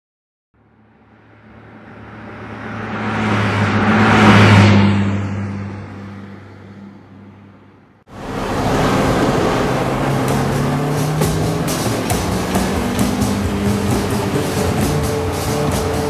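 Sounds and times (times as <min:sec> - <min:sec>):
car passing by: 0:01.0 - 0:16.0.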